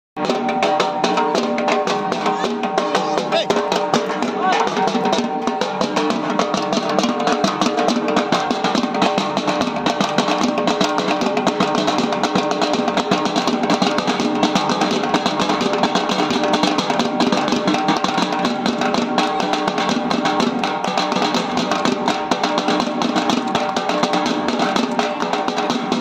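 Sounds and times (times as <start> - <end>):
barrel drums beaten with sticks: 0.2 - 26.0.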